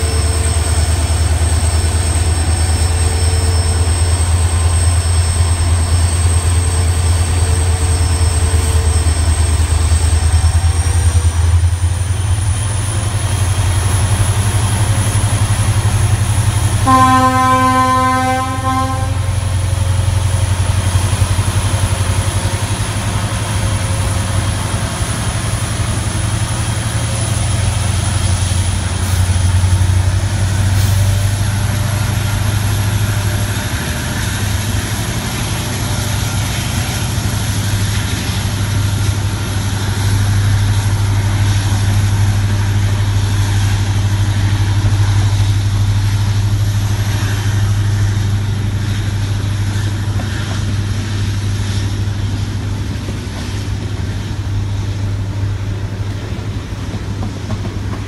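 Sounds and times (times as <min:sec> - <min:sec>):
locomotive engine low hum: 0:00.0 - 0:58.0.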